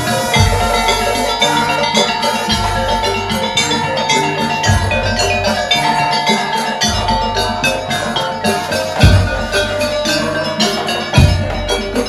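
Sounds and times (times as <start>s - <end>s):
percussion ensemble playing: 0.0s - 12.0s.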